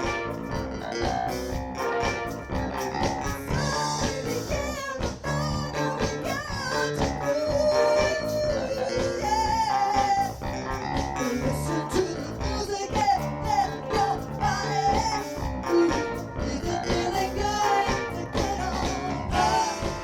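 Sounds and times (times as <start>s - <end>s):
soul-funk band playing: 0.0s - 20.0s.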